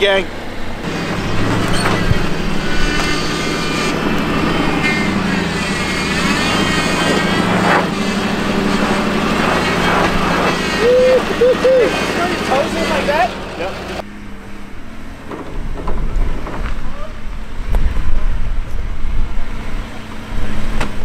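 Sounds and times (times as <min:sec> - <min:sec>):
truck engine running: 0:00.0 - 0:20.9.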